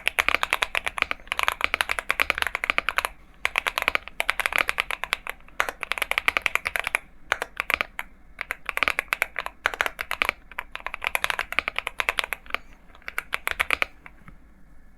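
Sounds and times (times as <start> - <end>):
mechanical keyboard typing: 0.0 - 14.2.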